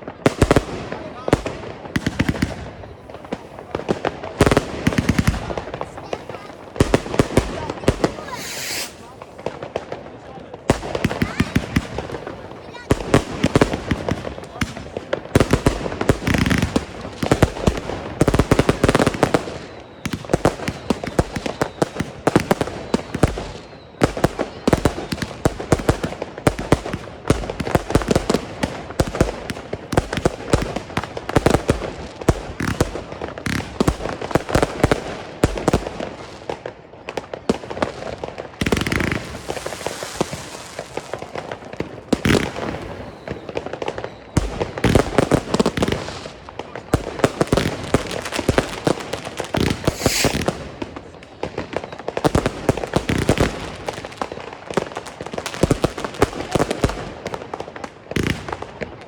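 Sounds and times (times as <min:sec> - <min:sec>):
firework shots and bangs: 0:00.0 - 0:58.9
fireworks hissing and crackling: 0:00.0 - 0:59.0.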